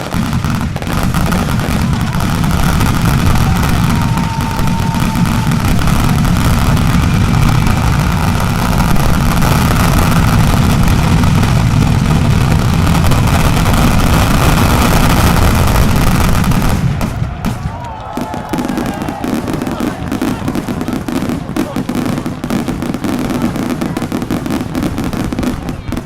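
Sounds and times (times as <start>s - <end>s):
firecrackers barrage: 0.0s - 26.0s.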